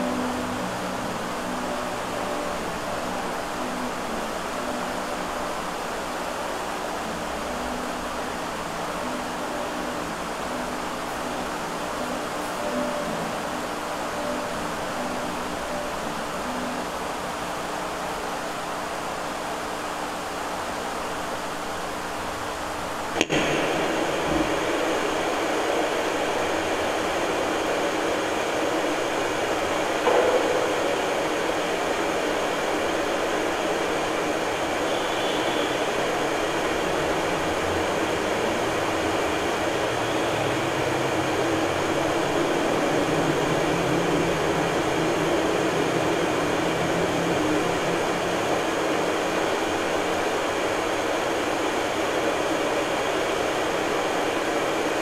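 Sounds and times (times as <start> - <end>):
faint steady tones: 0.0 - 55.0
steady hiss and hum: 0.0 - 55.0.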